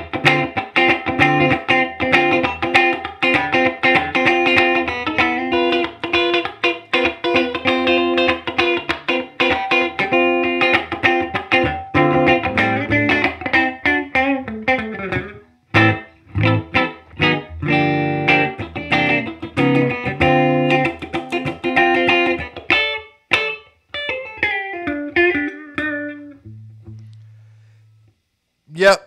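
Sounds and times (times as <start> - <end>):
funk electric guitar rhythm: 0.0 - 27.4.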